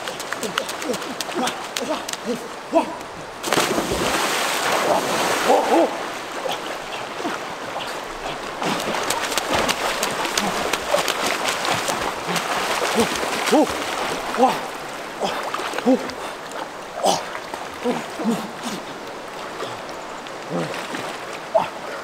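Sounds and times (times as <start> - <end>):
people splashing in river water: 0.0 - 22.0.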